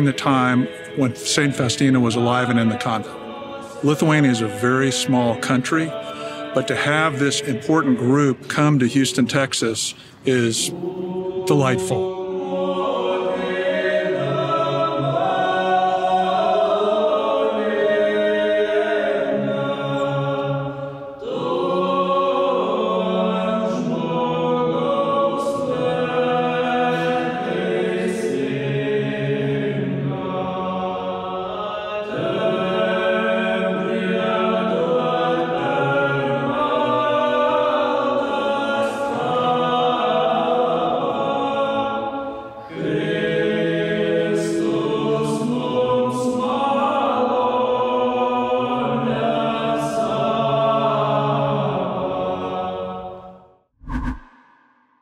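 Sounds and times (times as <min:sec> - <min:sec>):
mixed choir singing a cappella: 0:00.0 - 0:54.7.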